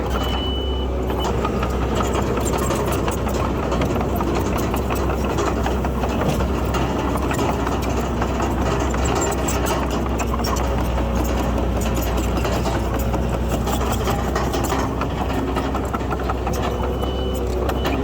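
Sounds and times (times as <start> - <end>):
bulldozer diesel engine running: 0.0 - 18.0
steel tracks rattling: 0.0 - 18.0.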